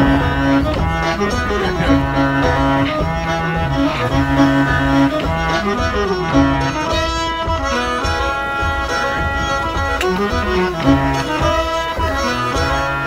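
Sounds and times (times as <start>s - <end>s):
bass line: 0.0s - 13.0s
bowed strings music: 0.0s - 13.0s.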